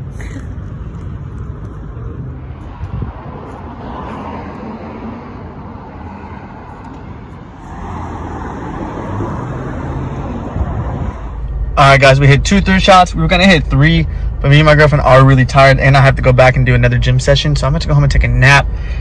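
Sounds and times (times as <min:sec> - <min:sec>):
cars going by: 0:00.0 - 0:19.0.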